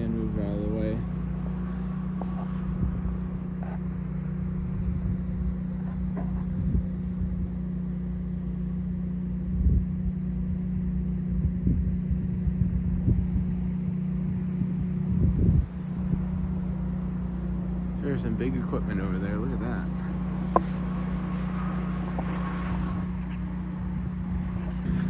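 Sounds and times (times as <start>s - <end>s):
engine droning: 0.0s - 25.0s.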